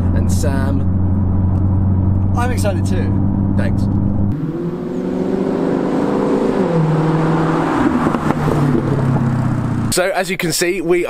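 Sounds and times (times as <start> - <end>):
sports car engine driving by: 0.0 - 10.0.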